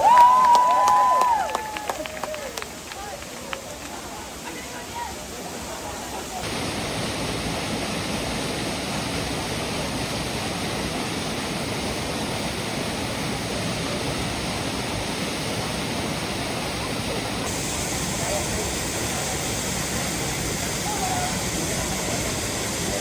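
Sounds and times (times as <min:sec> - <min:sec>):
waterfall rushing: 0:02.7 - 0:23.0.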